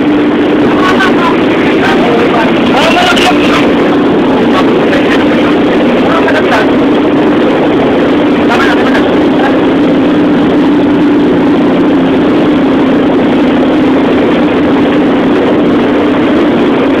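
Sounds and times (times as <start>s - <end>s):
boat engine running: 0.0s - 17.0s
rushing noise: 0.0s - 17.0s.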